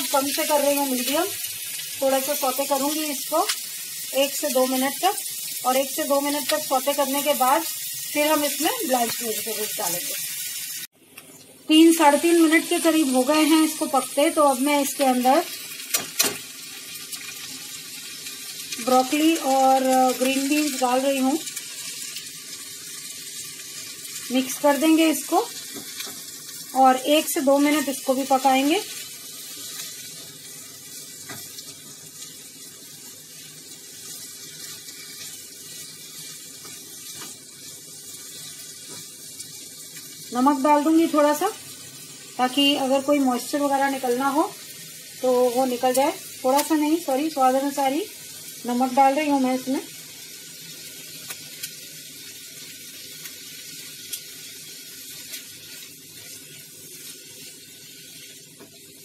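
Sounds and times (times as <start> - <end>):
vegetables sizzling in a frying pan: 0.0 - 59.0.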